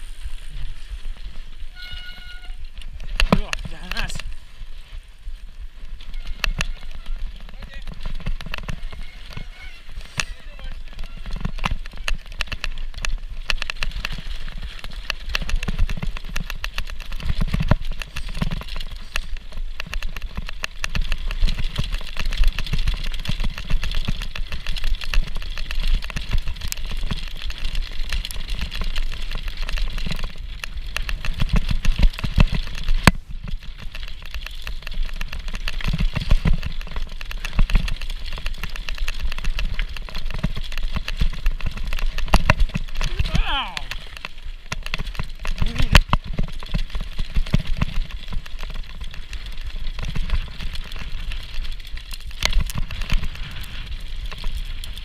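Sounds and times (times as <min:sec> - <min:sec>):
bike rattling over rough ground: 0:00.0 - 0:55.0
wind rumble on microphone: 0:00.0 - 0:55.0.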